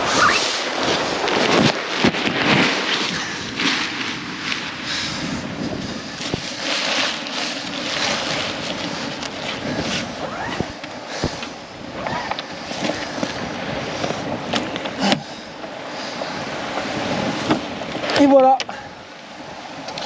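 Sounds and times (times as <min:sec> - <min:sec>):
wind and sea rushing: 0:00.0 - 0:20.0
wind buffeting microphone: 0:00.0 - 0:20.0.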